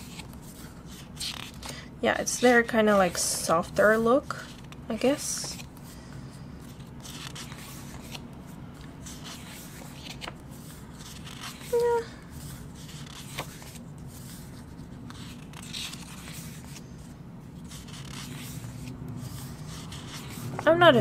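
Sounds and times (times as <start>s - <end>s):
paper pages rustling: 0.0s - 21.0s.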